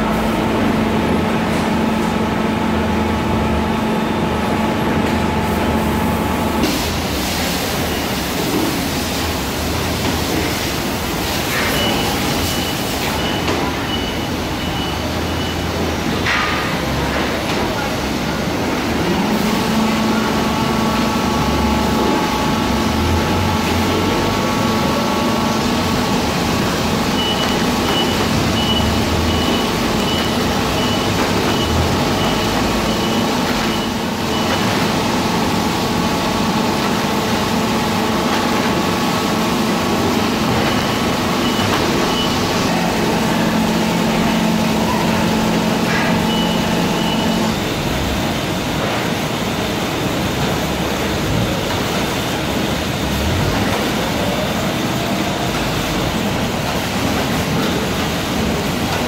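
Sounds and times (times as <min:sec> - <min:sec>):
factory conveyor hum: 0:00.0 - 0:59.0.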